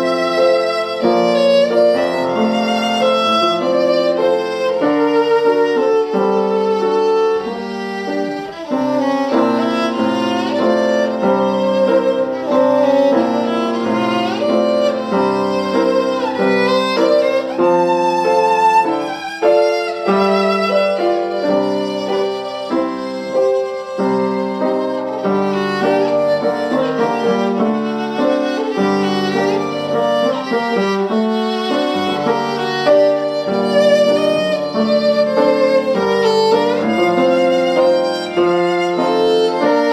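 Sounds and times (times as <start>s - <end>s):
piano accompaniment: 0.0s - 39.9s
solo violin melody: 0.0s - 39.9s.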